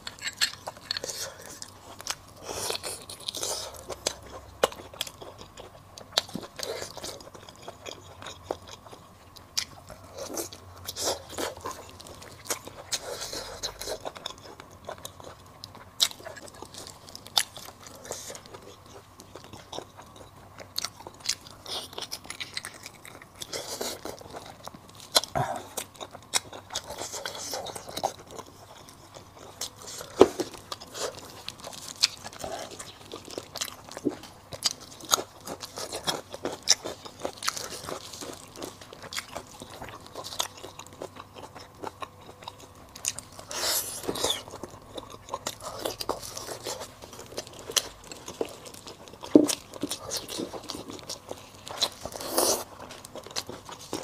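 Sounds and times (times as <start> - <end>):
wet chewing and mouth clicks: 0.0 - 54.0.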